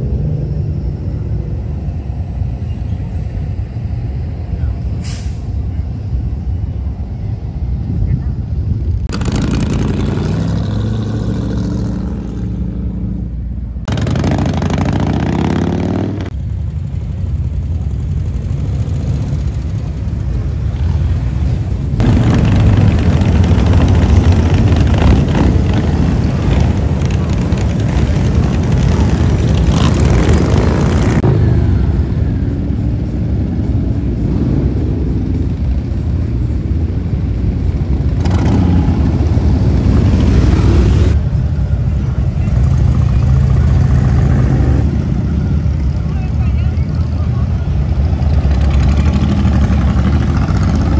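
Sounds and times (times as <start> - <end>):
motorcycle engines revving: 9.0 - 50.9.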